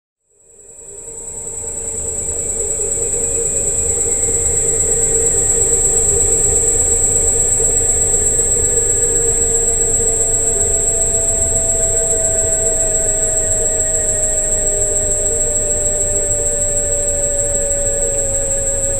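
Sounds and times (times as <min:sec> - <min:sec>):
electric scooter motor whine: 0:01.0 - 0:18.9.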